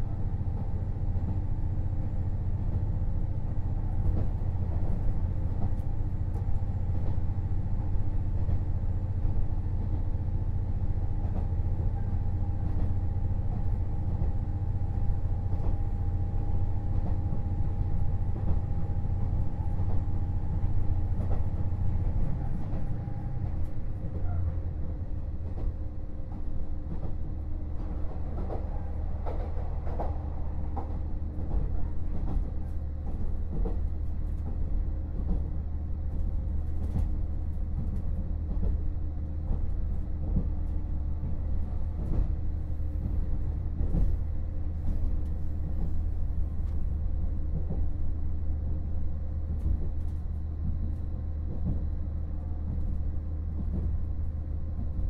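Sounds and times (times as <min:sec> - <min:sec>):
diesel railcar engine hum: 0:00.0 - 0:55.0.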